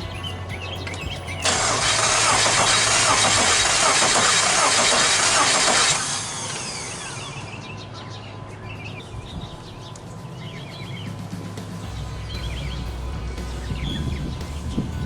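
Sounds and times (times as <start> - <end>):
car engine running loudly: 0.0 - 7.8, 10.4 - 15.0
birds chirping: 0.0 - 15.0.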